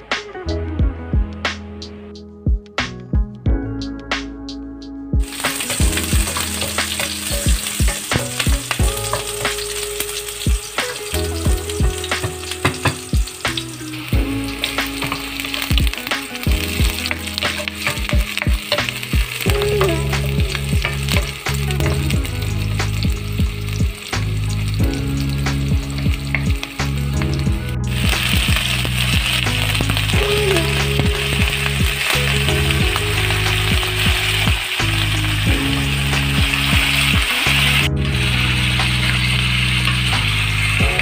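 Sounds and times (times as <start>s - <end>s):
onion sizzling in oil: 5.2s - 41.0s.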